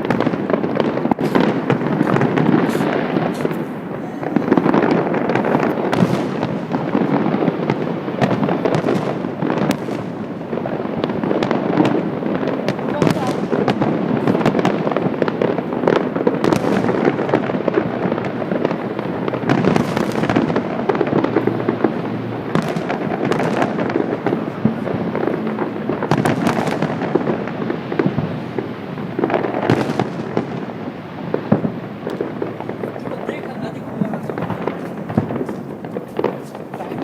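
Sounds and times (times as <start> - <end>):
fireworks banging and crackling: 0.0 - 37.0
loud firework bursts: 0.0 - 37.0.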